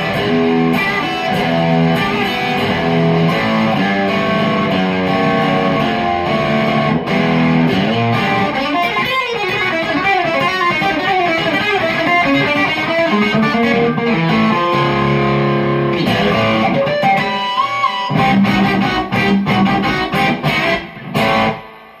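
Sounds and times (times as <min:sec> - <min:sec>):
electric guitar country licks: 0:00.0 - 0:22.0.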